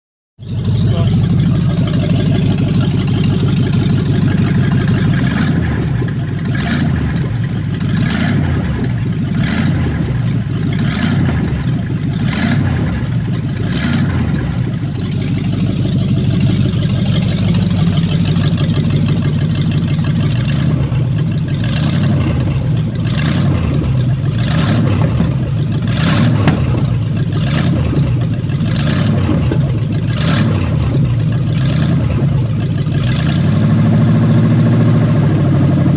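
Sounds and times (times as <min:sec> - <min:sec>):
vehicle engine idling: 0:00.4 - 0:35.9.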